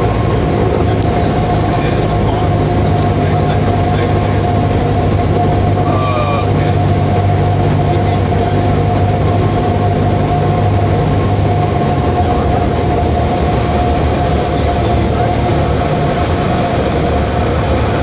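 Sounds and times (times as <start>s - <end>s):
airplane engine and propeller drone: 0.0s - 18.0s
steady cabin hum: 0.0s - 18.0s.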